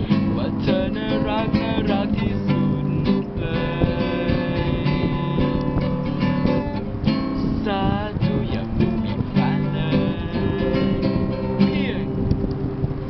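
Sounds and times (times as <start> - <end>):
acoustic guitar strummed and picked: 0.0 - 13.0.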